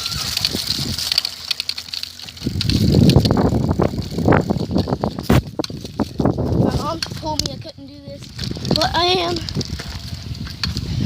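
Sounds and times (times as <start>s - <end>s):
wind buffeting microphone: 0.0s - 1.2s, 2.3s - 11.0s
bicycle rattling and rumbling: 0.0s - 11.0s.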